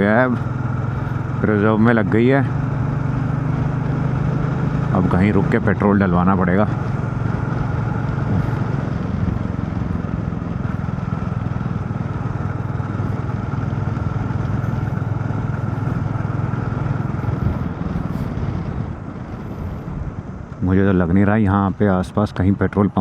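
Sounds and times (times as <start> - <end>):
motorcycle engine running: 0.0 - 23.0
road noise: 0.0 - 23.0.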